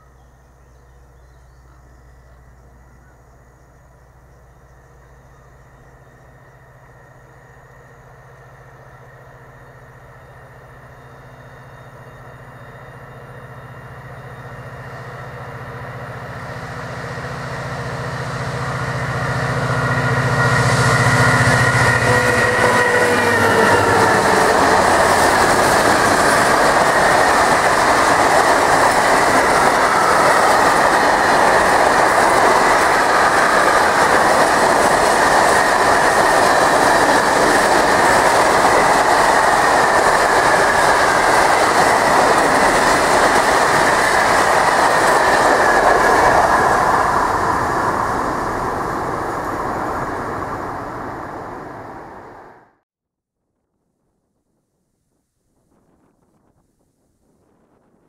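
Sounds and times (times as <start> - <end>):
diesel locomotive engine drone: 0.0 - 52.8
freight train rolling past: 0.0 - 52.8.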